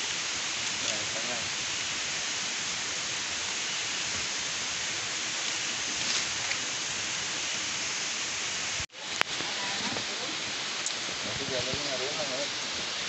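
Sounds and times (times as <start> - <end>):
forest background hiss: 0.0 - 13.0.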